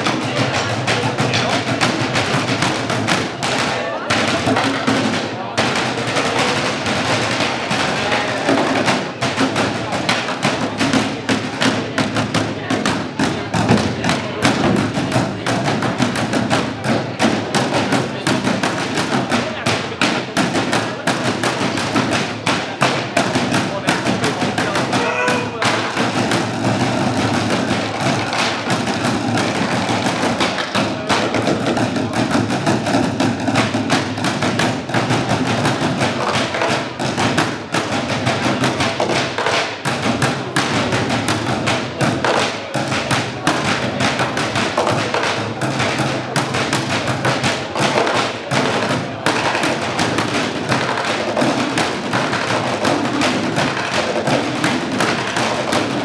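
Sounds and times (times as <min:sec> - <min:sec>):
drumsticks beating on plastic bins: 0:00.0 - 0:56.0.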